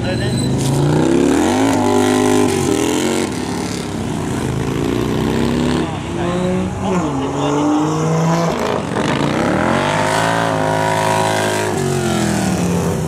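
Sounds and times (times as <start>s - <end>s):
motorcycle engines racing: 0.0s - 13.0s.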